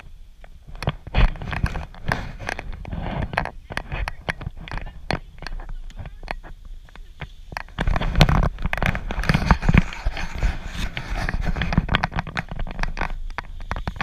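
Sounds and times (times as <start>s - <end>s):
dense irregular clicks: 0.0s - 14.0s
wind buffeting microphone: 0.0s - 14.0s.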